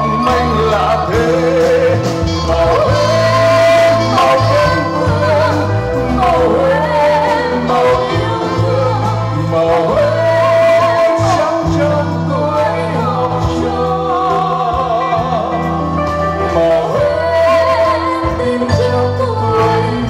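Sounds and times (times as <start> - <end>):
live band with bass line: 0.0 - 20.0
person singing with vibrato: 0.0 - 20.0.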